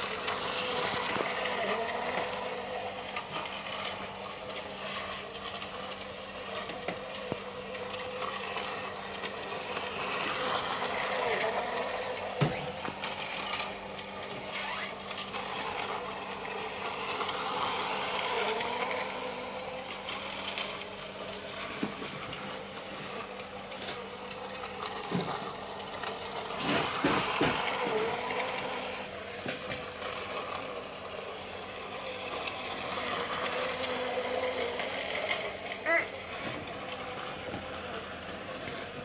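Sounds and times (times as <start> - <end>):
toy train motor whirring: 0.0 - 39.0
toy train wheels clattering: 0.0 - 39.0.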